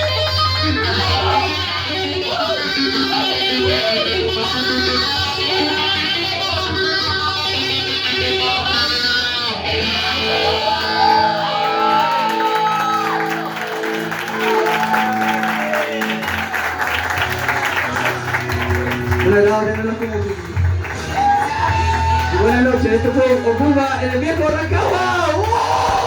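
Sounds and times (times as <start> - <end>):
electric guitar: 0.0 - 26.0.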